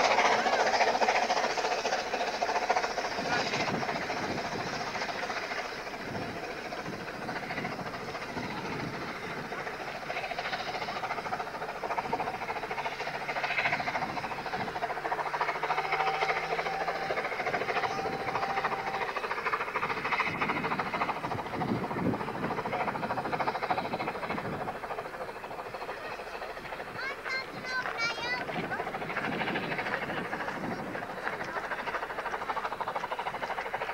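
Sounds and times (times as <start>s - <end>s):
train rumbling: 0.0s - 33.9s.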